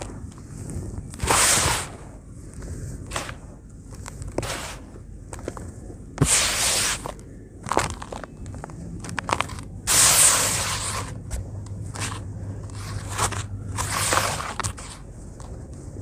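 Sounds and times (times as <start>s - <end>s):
hand crunching cement powder: 0.0s - 16.0s.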